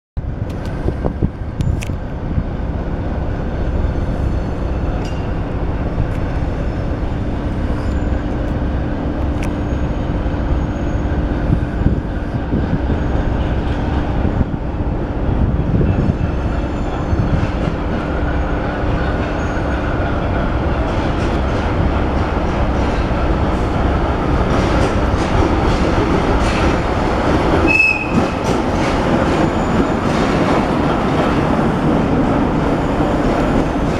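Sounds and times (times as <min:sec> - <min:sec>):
diesel locomotive engine running: 0:00.2 - 0:33.9
train wheels over rail joints: 0:00.3 - 0:33.9.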